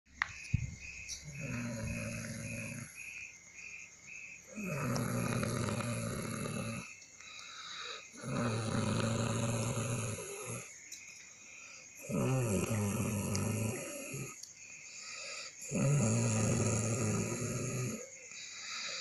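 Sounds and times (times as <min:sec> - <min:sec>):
person snoring heavily: 0:01.2 - 0:03.0, 0:04.5 - 0:10.8, 0:11.7 - 0:19.0.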